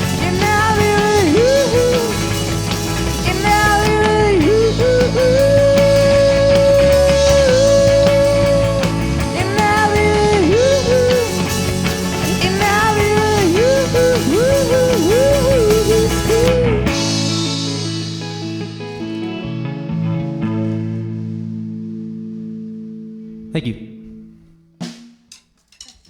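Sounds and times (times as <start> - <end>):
rock band playing live: 0.0 - 22.9
guitar ringing: 0.0 - 25.6.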